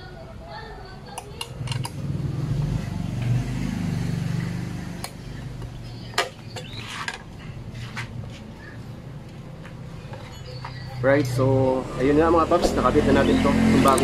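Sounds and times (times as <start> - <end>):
vehicle engine passing: 1.5 - 14.0.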